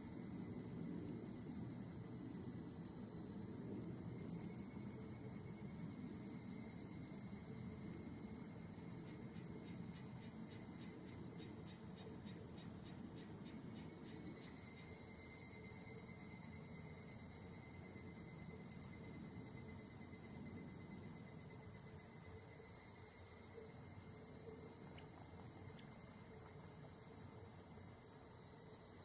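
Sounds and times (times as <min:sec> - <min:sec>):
fast pulsing insect call: 0:01.3 - 0:26.7.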